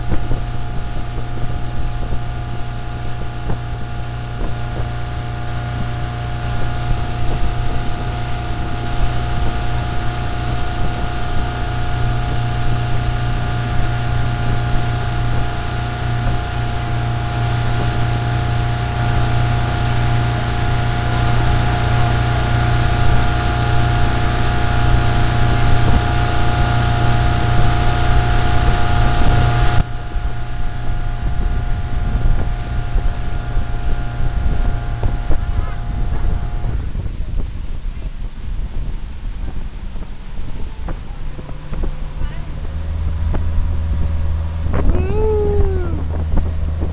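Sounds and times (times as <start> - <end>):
motorboat engine running: 0.0 - 46.9.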